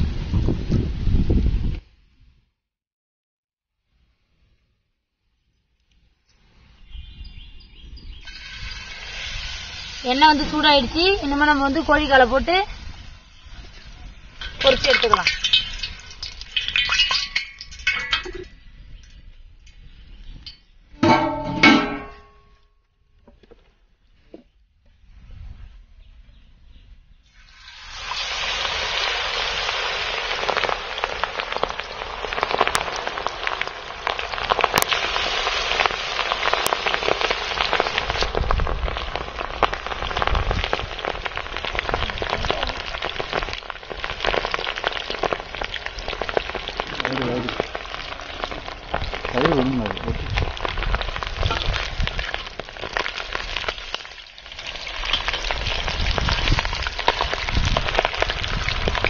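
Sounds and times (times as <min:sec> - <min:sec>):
food deep-frying in oil: 0:06.8 - 0:22.4, 0:27.2 - 0:59.0.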